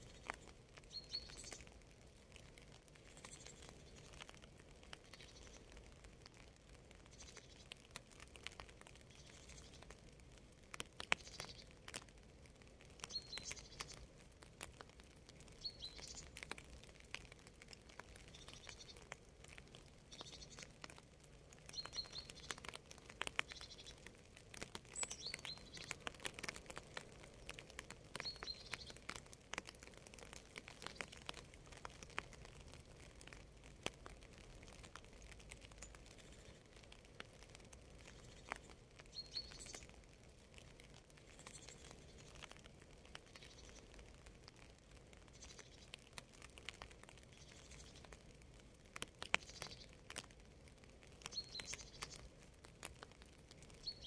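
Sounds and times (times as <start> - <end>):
small birds chirping: 0.0 - 12.2, 12.8 - 54.0
rain drops pattering: 0.0 - 54.0.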